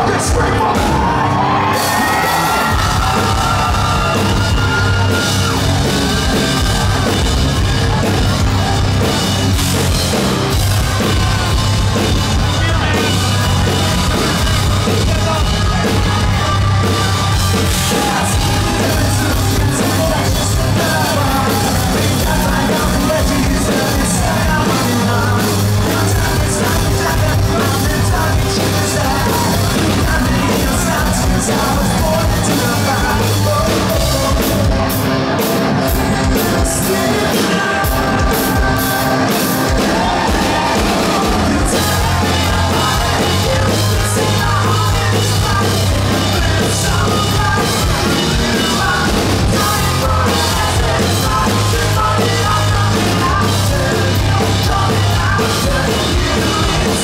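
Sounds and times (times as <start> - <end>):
lead vocal singing and yelling: 0.0 - 57.0
live rock band playing: 0.0 - 57.0.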